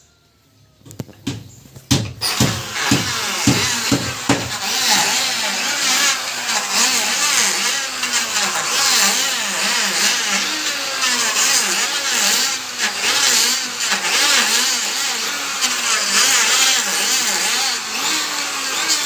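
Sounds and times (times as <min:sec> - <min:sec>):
wood planing machine cutting: 0:00.9 - 0:19.0.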